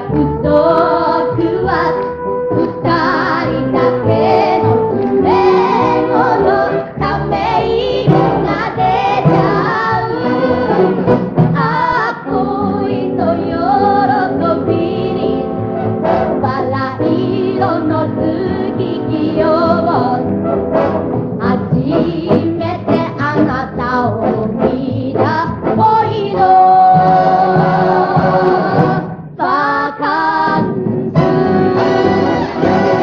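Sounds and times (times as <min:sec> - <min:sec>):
pop song with group vocals: 0:00.0 - 0:15.6, 0:16.4 - 0:20.4, 0:21.4 - 0:33.0.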